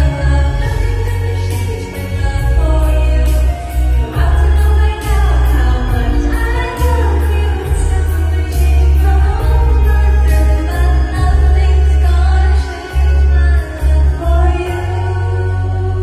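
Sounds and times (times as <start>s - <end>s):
heavy pulsing bass: 0.0s - 16.0s
loud backing track: 0.0s - 16.0s
woman singing pop song: 0.0s - 16.0s.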